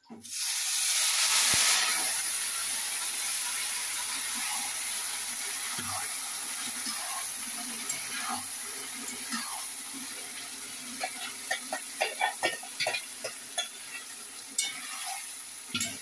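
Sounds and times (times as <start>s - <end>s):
chicken sizzling in hot oil: 0.1s - 16.0s.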